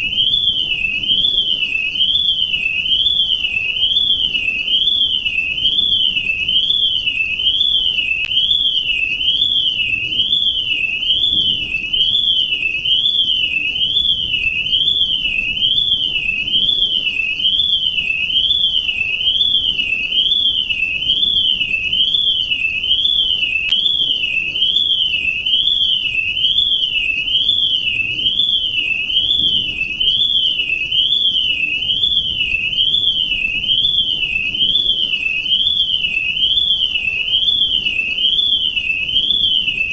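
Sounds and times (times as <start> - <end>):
warbling electronic alarm: 0.0 - 39.9.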